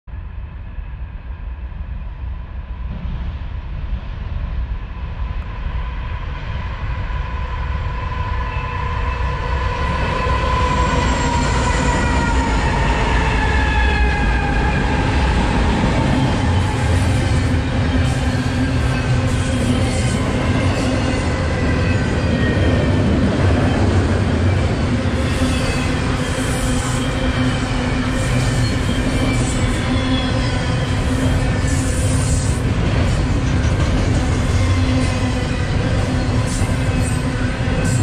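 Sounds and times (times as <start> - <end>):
diesel locomotives rumbling: 0.3 - 38.0.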